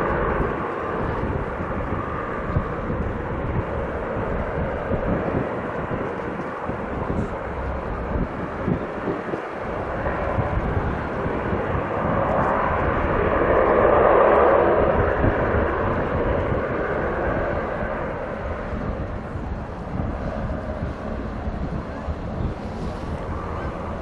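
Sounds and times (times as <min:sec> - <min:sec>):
turboprop airliner passing: 0:00.0 - 0:24.0.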